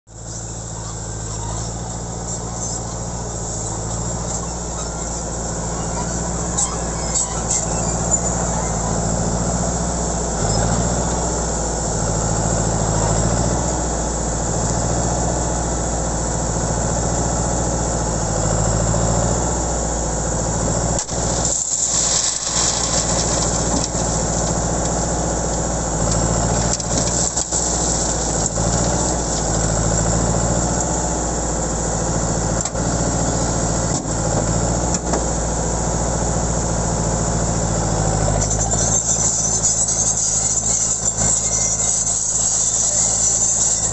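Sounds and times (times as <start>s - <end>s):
diesel engine running: 0.1s - 43.9s.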